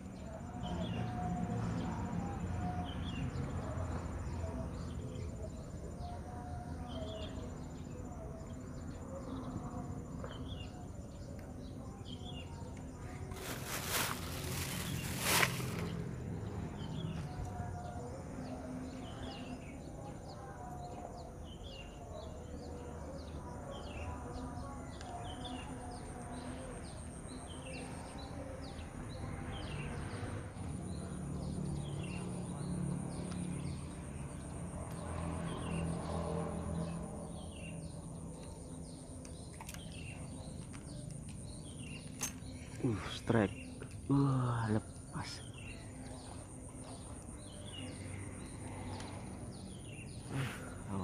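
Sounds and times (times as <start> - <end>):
small birds chirping: 4.5 - 36.0, 36.8 - 51.0.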